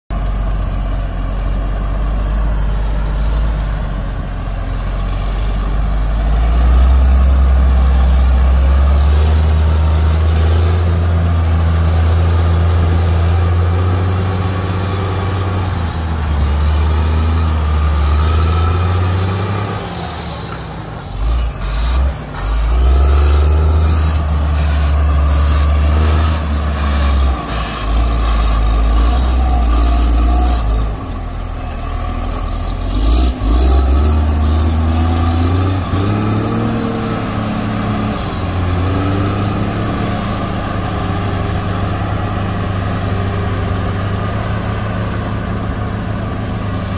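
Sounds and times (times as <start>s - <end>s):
diesel grader engine rumble: 0.1s - 46.9s.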